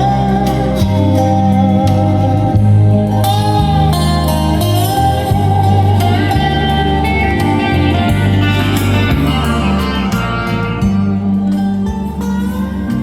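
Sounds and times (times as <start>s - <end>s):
music with steady bass line: 0.0s - 13.0s.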